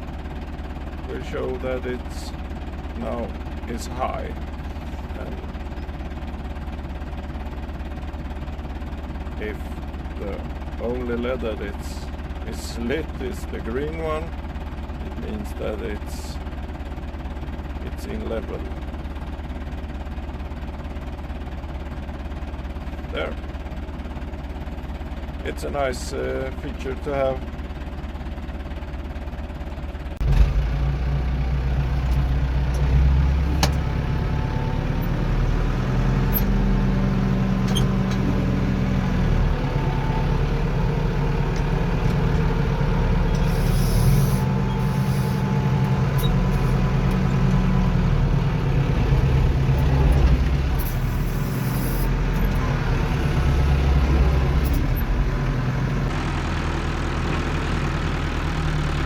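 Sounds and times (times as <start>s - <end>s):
tractor engine running: 0.0s - 25.4s, 27.0s - 59.0s.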